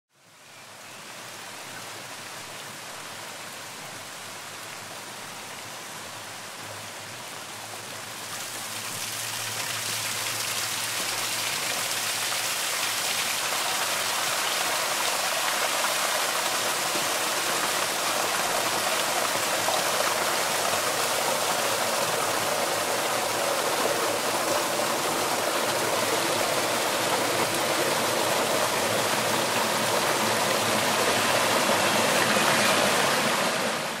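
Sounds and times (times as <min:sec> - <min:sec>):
water cascading over rocks: 0:01.3 - 0:34.0.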